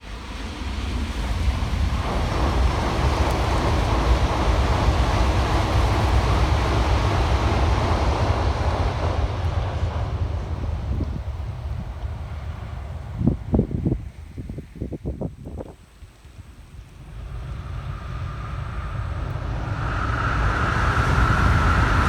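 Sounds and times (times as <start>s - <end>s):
high speed train rushing past: 0.0s - 14.8s, 16.4s - 22.0s
wind rumble on microphone: 0.0s - 22.0s.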